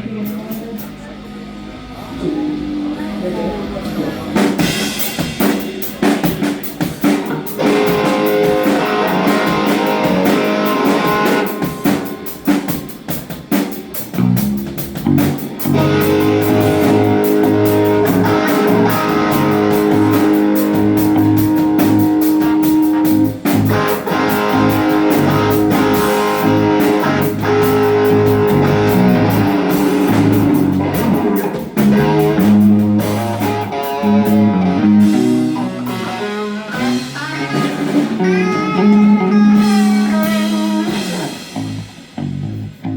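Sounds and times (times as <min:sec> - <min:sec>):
bass: 0:00.0 - 0:42.9
drum kit: 0:00.0 - 0:42.9
electric guitars: 0:00.0 - 0:42.9.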